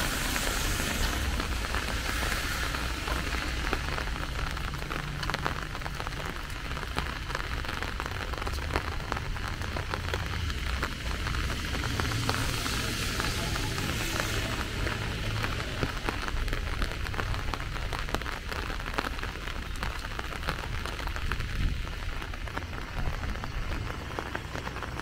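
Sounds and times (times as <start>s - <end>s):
low steady rain rumble: 0.0s - 25.0s
raindrop ticks: 0.1s - 25.0s.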